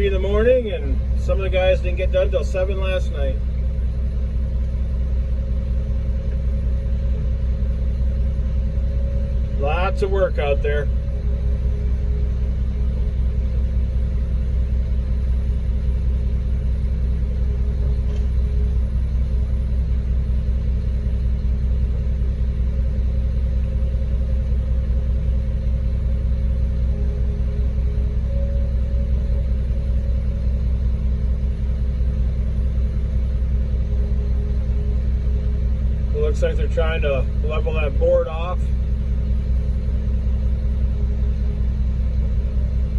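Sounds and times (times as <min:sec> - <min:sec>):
diesel truck engine running: 0:00.0 - 0:42.9
faint steady hum: 0:00.0 - 0:42.9.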